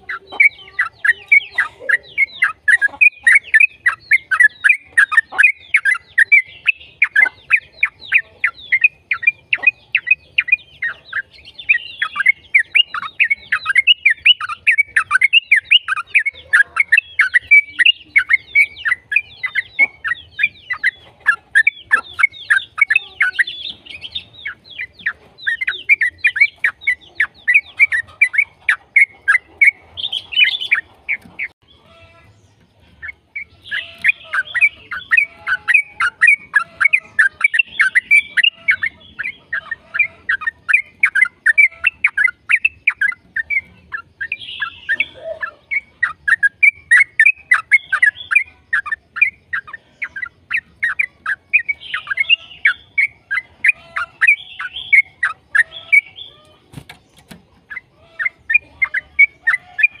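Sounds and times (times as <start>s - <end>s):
bird chirping rapidly: 0.0s - 60.0s.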